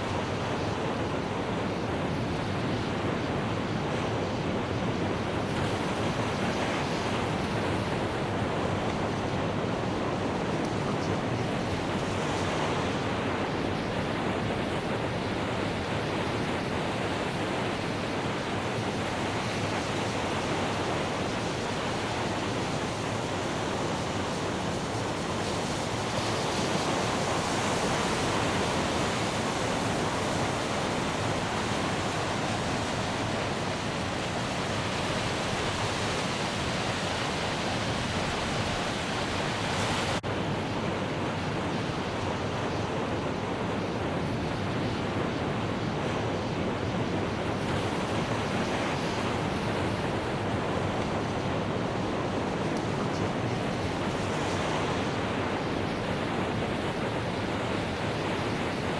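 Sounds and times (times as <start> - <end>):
wind noise on microphone: 0.0 - 58.9.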